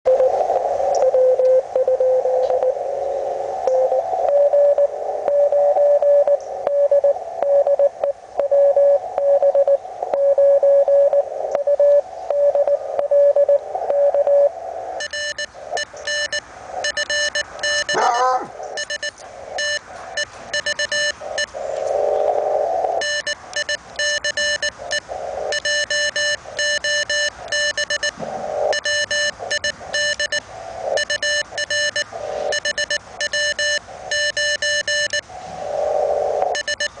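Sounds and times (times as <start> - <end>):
radio band hiss: 0.2 - 37.0
morse code beep tone: 1.0 - 2.8, 3.7 - 21.6, 22.9 - 35.3, 36.4 - 37.0.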